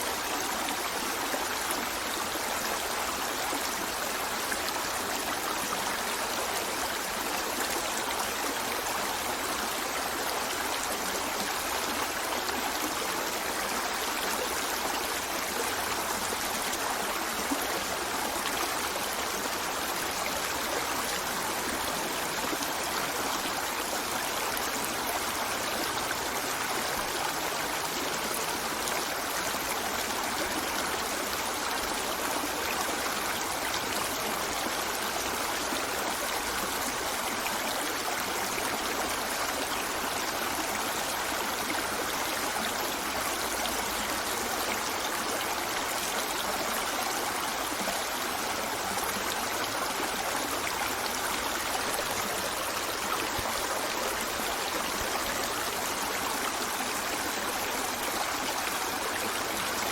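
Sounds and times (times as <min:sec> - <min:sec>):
river flowing over rocks: 0:00.0 - 0:59.9.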